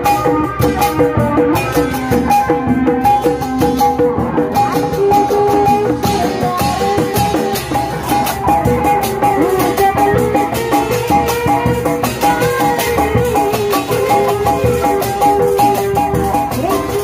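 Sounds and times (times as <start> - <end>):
busy drum rhythm: 0.0 - 17.0
ornamented lead melody: 0.0 - 17.0.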